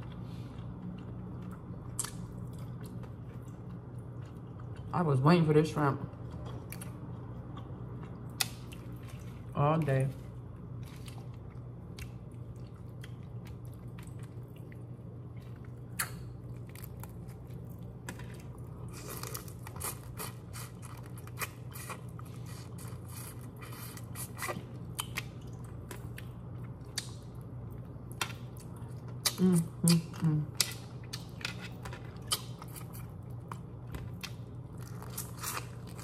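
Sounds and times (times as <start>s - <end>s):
chewing and crunching shrimp: 0.0s - 5.2s, 6.0s - 36.0s
steady low hum: 0.0s - 36.0s.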